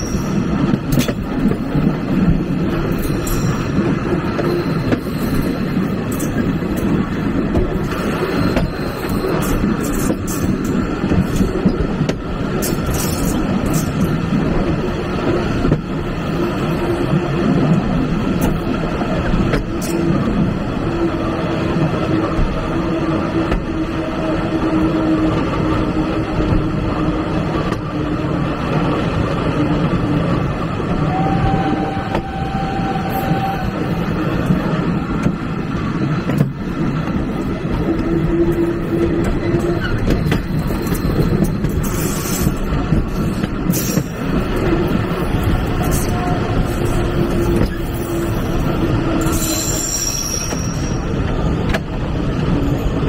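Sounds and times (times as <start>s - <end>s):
train wheels rolling on rails: 0.0s - 53.0s.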